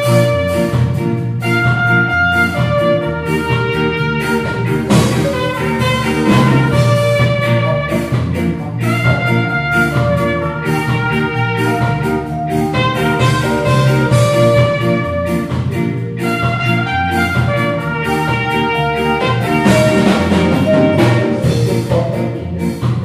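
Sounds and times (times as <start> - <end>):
ska band music with trumpet: 0.0 - 23.0.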